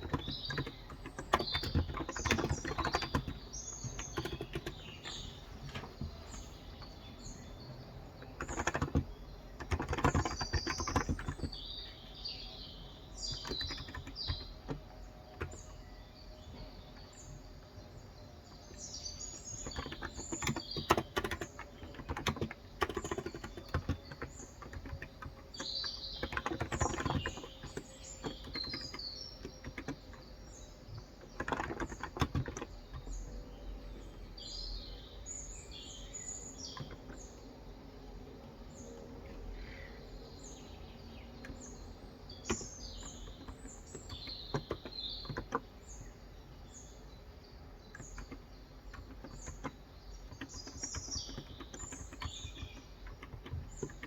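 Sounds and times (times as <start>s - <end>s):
typing on a keyboard: 0.0s - 17.5s, 18.5s - 34.3s, 36.5s - 37.5s, 40.6s - 54.0s
small birds chirping: 0.0s - 54.0s.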